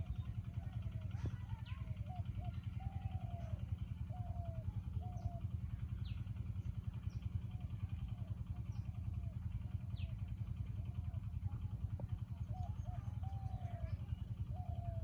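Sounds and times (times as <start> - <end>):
rapidly pulsing low drone: 0.0 - 15.0.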